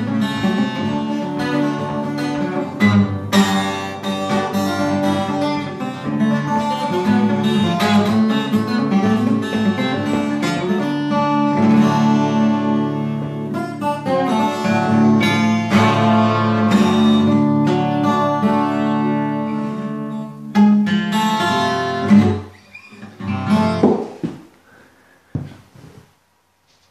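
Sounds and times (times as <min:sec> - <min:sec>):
twelve-string acoustic guitar: 0:00.0 - 0:24.4.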